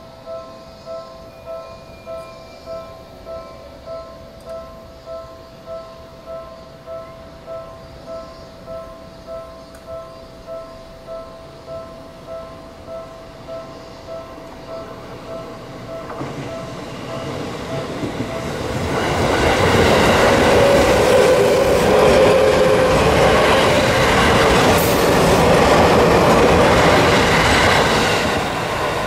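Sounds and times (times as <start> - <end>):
level-crossing warning bell: 0.0 - 29.0
train passing at speed: 0.0 - 29.0.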